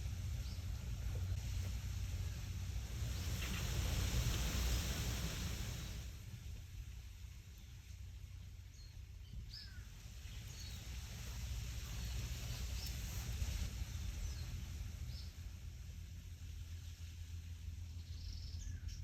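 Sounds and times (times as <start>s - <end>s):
wind rumbling on microphone: 0.0s - 18.9s.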